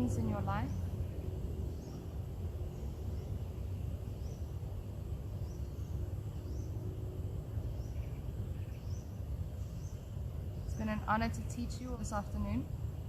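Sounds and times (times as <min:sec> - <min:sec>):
bird chirping: 0:00.0 - 0:12.5
steady low rumble: 0:00.0 - 0:13.0.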